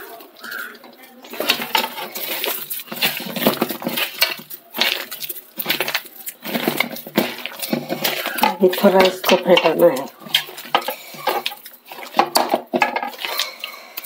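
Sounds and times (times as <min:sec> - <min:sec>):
hand mixing thick paste: 0:00.0 - 0:14.0
metal pot scraping and clinking: 0:00.0 - 0:14.0.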